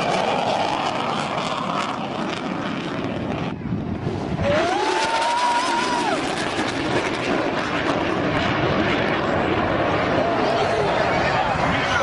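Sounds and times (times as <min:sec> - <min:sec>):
fighter jet flying past: 0:00.0 - 0:12.0.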